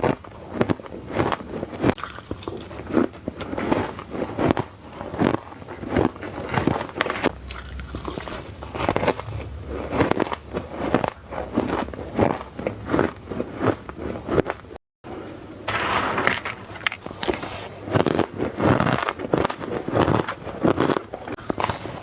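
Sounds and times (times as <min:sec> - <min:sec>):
crunching ice: 0:00.0 - 0:14.8, 0:15.7 - 0:22.0.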